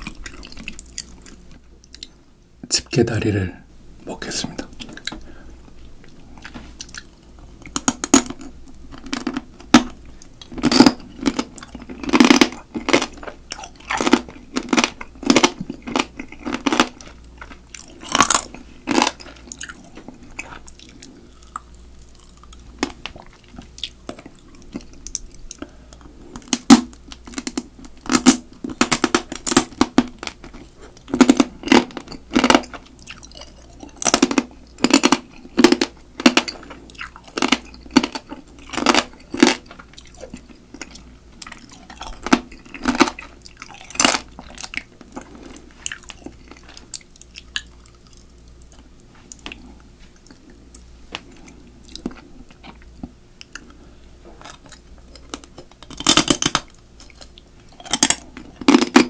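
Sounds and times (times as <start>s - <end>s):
chewing crunchy crab shell: 0.0s - 2.2s, 4.7s - 59.0s.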